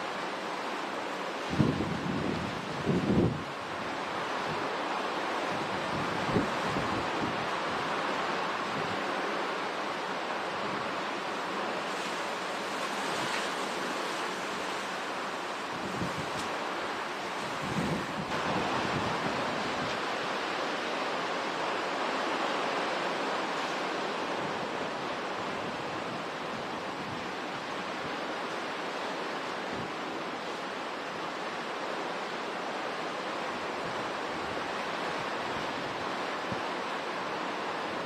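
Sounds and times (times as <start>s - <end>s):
driving rain: 0.0s - 38.0s
hurricane wind: 0.0s - 38.0s.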